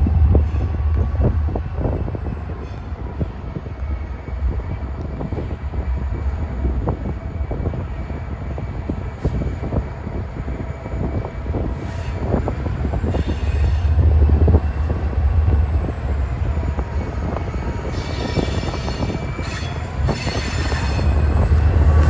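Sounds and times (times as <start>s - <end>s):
diesel locomotive rumbling: 0.0s - 22.0s.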